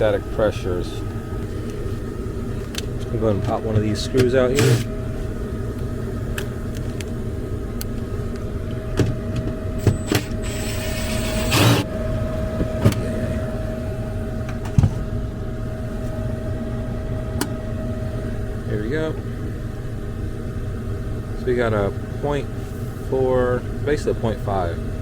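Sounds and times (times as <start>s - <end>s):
furnace blower humming: 0.0s - 25.0s.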